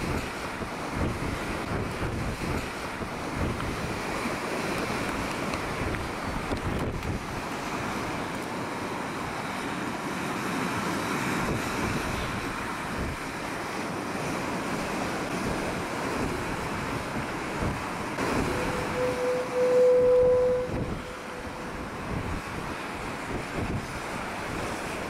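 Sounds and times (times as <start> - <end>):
waves surging and breaking: 0.0 - 25.0
wind gusting on microphone: 0.0 - 25.0.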